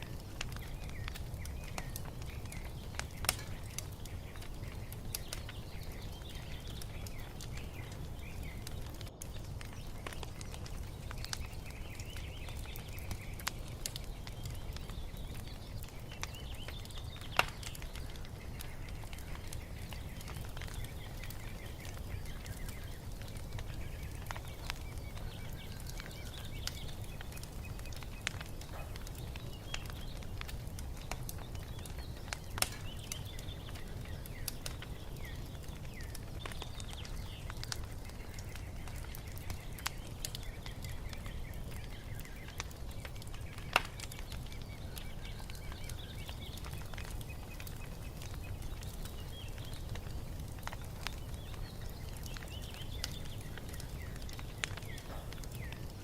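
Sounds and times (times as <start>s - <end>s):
songbirds chirping: 0.0s - 56.0s
wood fire crackling: 0.0s - 56.0s.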